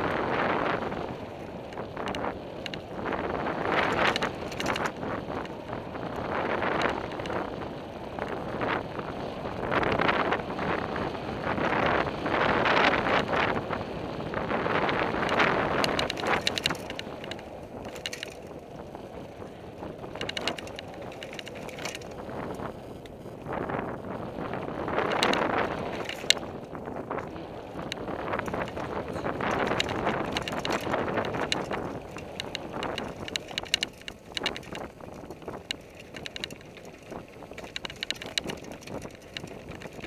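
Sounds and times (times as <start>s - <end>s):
bike rattling and clicking: 0.0s - 40.0s
wind noise on microphone: 0.0s - 40.0s.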